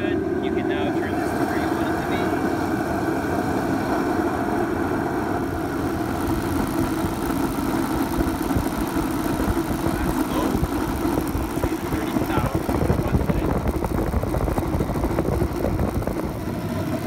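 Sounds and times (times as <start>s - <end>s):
forced-air heater running: 0.0s - 17.0s.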